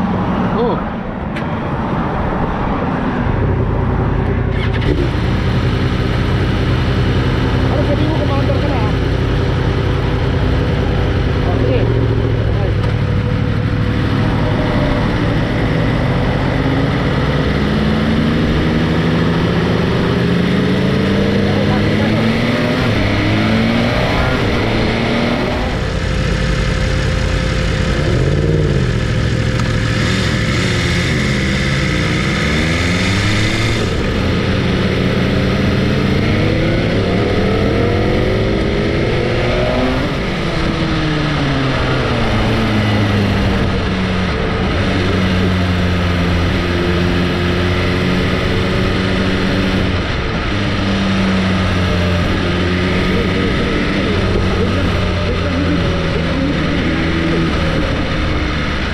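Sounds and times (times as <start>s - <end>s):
motorcycle engine revving: 0.0s - 58.9s
road and wind noise: 0.0s - 58.9s.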